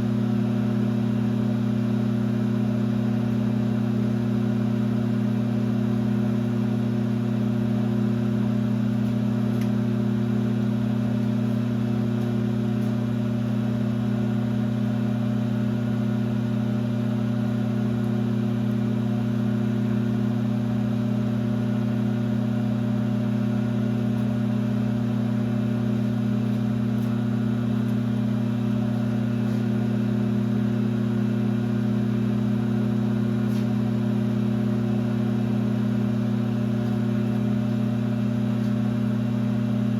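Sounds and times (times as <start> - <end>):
lathe running steadily: 0.0 - 39.9.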